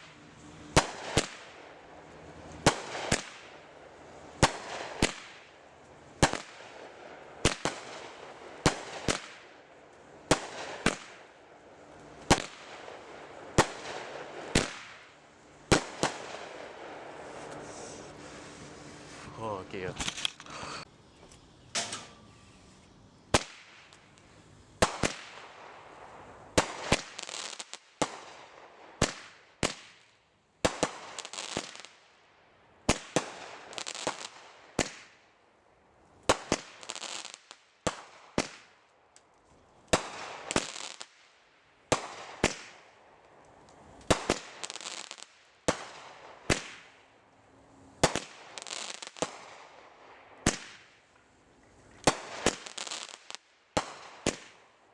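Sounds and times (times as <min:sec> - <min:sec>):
firework bangs: 0:00.0 - 0:20.2, 0:23.3 - 0:32.1, 0:32.8 - 0:35.2, 0:36.2 - 0:38.8, 0:39.9 - 0:43.0, 0:43.6 - 0:47.2, 0:47.9 - 0:51.2, 0:51.9 - 0:54.8
firework crackling hiss: 0:00.0 - 0:32.2, 0:32.8 - 0:54.9.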